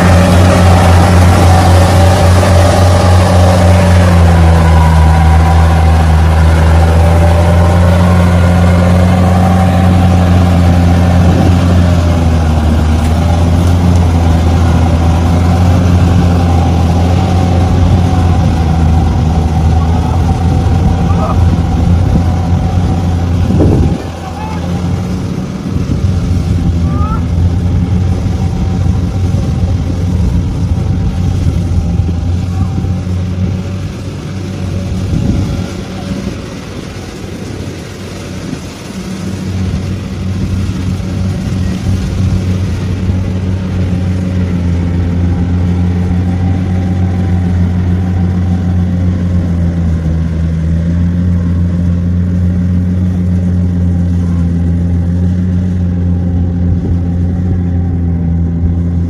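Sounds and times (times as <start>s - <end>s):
heavy harvester engine running: 0.0s - 59.0s.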